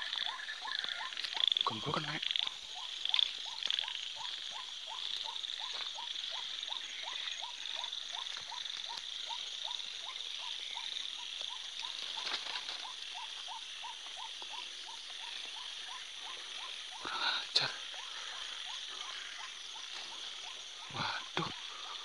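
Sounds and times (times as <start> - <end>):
frog calling: 0.0 - 22.0
insects droning: 0.0 - 22.0.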